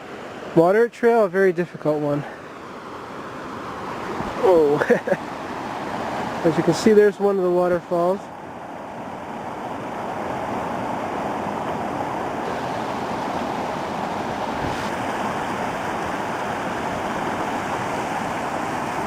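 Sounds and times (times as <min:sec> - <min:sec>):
waterfall rushing: 0:01.6 - 0:19.0.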